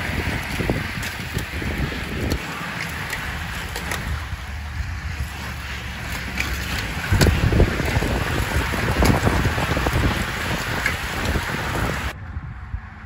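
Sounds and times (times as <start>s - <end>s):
bicycles tyre hiss passing: 0.0s - 12.2s
wind buffeting microphone: 0.0s - 13.0s.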